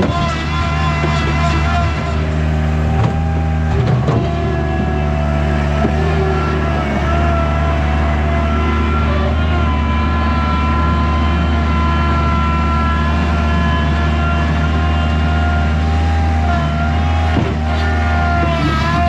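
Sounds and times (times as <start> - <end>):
skid steer engine whining: 0.0 - 19.0.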